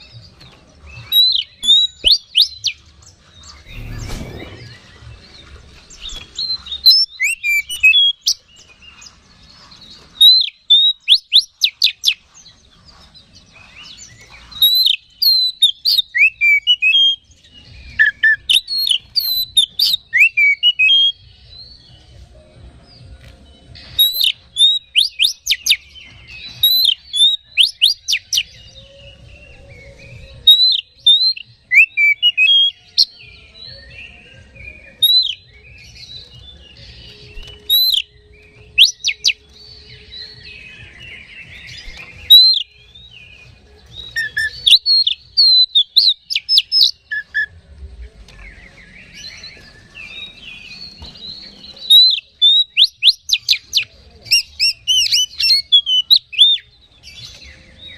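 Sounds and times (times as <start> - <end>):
bird singing whistled notes: 0.0 - 57.9.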